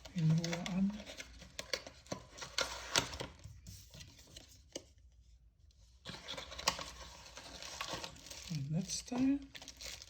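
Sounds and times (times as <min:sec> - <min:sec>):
soft rustling of packaging: 0:00.0 - 0:10.0.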